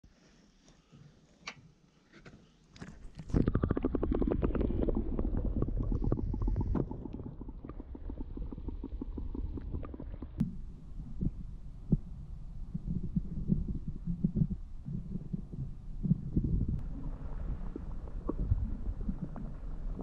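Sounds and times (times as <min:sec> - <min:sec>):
bubbling clicks: 0:02.8 - 0:20.0
muffled underwater rumble: 0:02.8 - 0:20.0.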